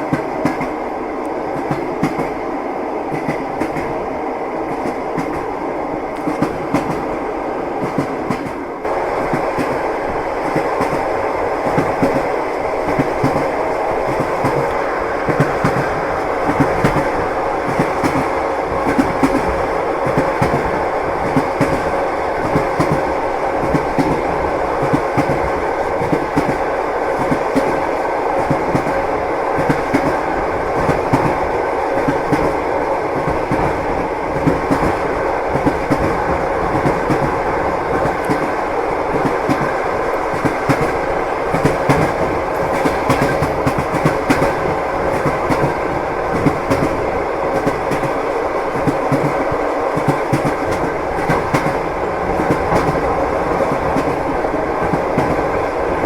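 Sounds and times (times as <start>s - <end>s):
train rumbling: 0.0s - 56.0s
train wheels clattering: 4.7s - 7.2s, 7.8s - 56.0s.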